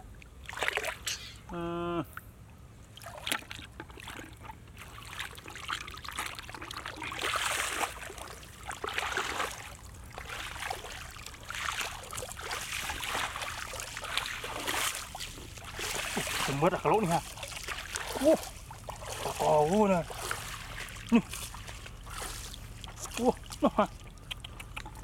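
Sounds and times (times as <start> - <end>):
feet splashing through water: 0.0 - 1.3, 2.9 - 25.0.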